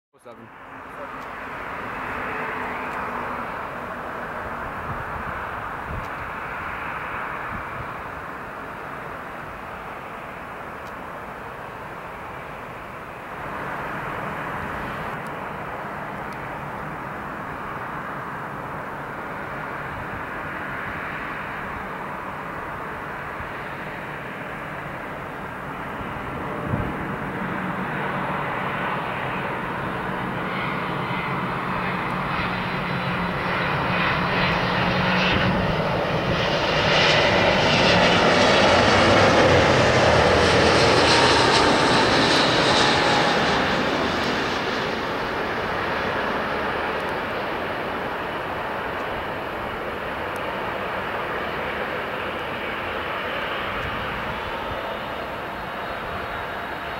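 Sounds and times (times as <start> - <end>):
high engine whine: 0.2 - 56.9
jet engines rumbling: 0.2 - 56.9.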